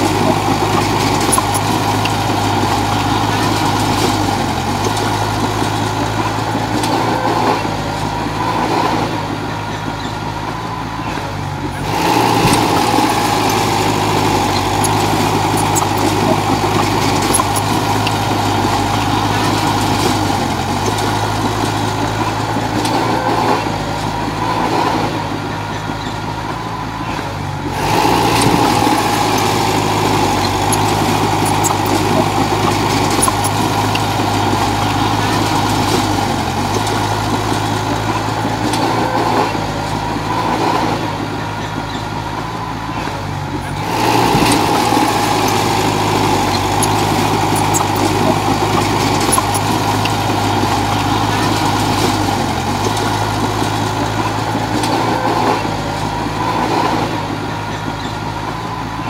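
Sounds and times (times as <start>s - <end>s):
dozer diesel engine running: 0.0s - 59.0s.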